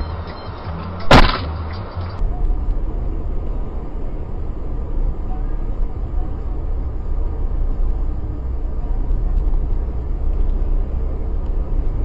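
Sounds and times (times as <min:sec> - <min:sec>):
car engine and tyre noise: 0:00.0 - 0:12.0.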